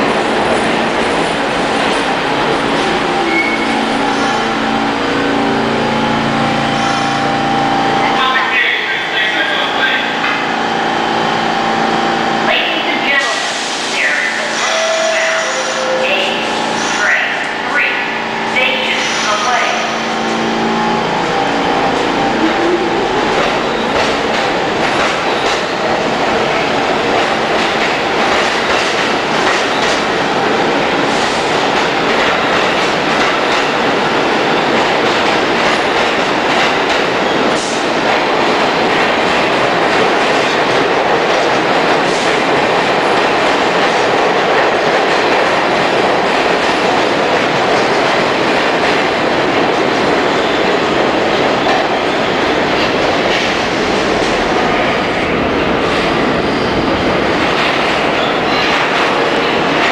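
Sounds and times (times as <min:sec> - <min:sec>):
subway train wheels clattering: 0:00.0 - 0:59.9.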